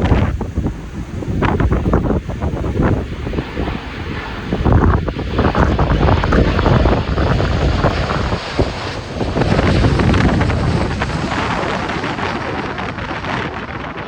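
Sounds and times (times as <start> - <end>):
jet engines rumbling: 0.0 - 14.0
wind buffeting microphone: 0.0 - 14.0.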